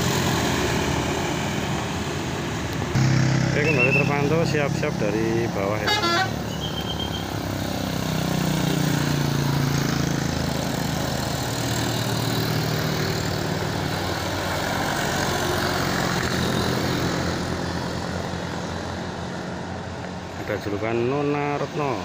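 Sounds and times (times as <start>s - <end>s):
bus diesel engine labouring: 0.0s - 22.0s.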